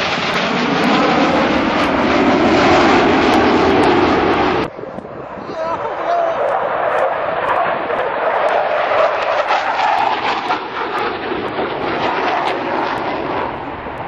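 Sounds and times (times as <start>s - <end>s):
jet engine roar overhead: 0.0s - 14.0s.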